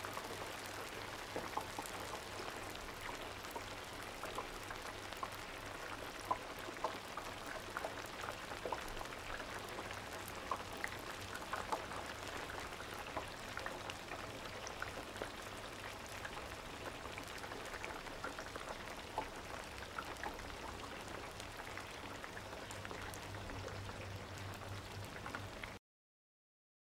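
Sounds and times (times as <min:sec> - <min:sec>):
oil bubbling and sizzling in fryer: 0:00.0 - 0:25.8.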